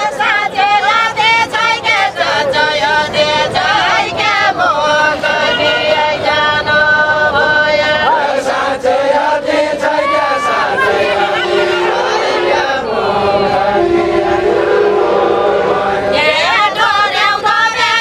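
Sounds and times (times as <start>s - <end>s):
group singing unaccompanied: 0.0s - 18.0s.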